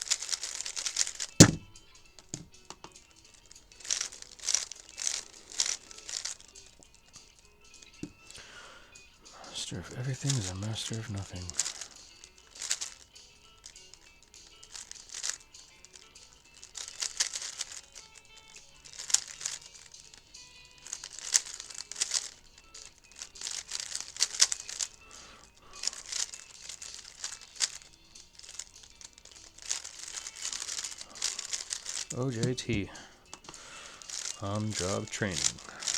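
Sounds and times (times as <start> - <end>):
faint music: 0.0 - 35.9
plastic puzzle cube clicking: 0.0 - 35.9.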